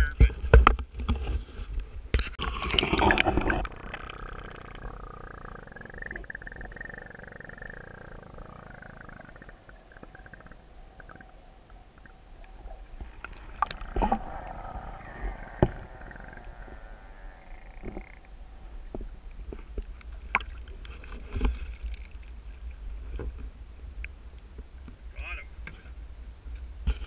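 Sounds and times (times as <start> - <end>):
low underwater rumble: 2.1 - 25.1
faint wavering whine: 3.0 - 26.7.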